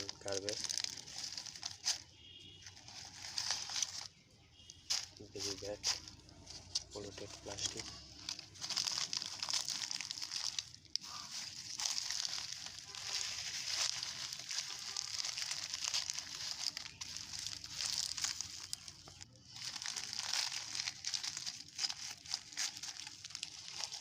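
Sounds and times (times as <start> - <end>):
plastic crinkling and rustling: 0.0 - 24.0.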